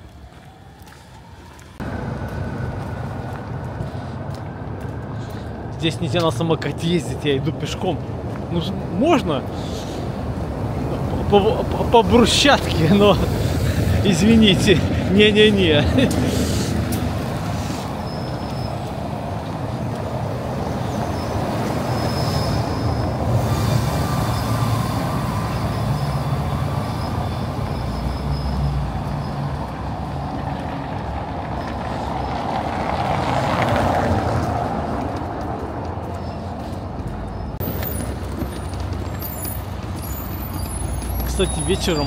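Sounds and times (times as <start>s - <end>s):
motor vehicles passing: 0.0s - 42.0s.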